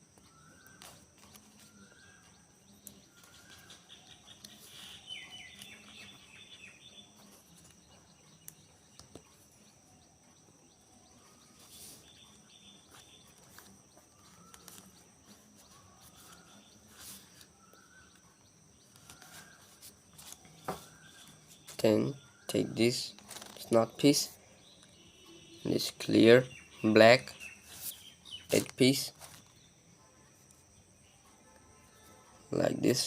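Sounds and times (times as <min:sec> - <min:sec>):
faint bird chirps: 0:00.0 - 0:33.0.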